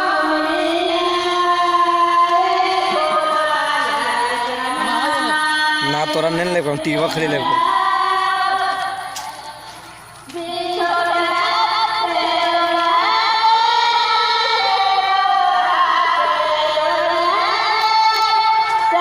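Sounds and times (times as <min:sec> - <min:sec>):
woman singing long gliding notes: 0:00.0 - 0:06.2, 0:07.4 - 0:19.0.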